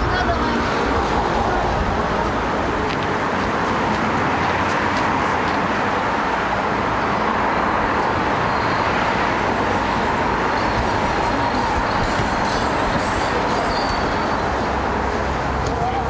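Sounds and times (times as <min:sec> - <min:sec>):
motor vehicle traffic rush: 0:00.0 - 0:16.0.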